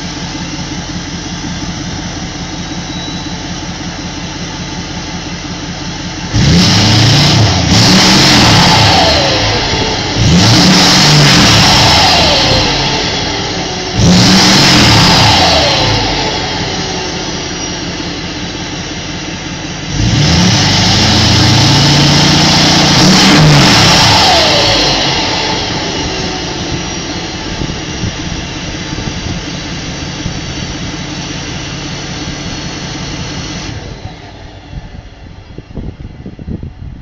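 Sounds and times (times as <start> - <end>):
diesel engine revving: 0.0 - 37.0.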